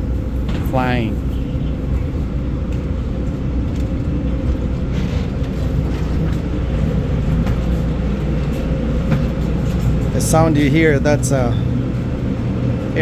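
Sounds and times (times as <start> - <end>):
constant hum: 0.0 - 13.0
jet airliner rumble: 0.0 - 13.0.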